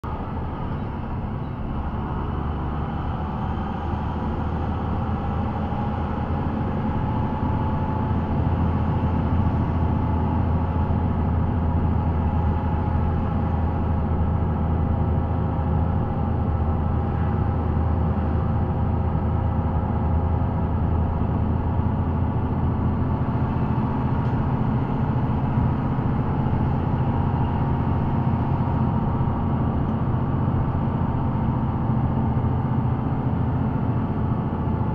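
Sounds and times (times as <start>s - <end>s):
engine drone: 0.0s - 34.9s
road noise: 0.0s - 34.9s.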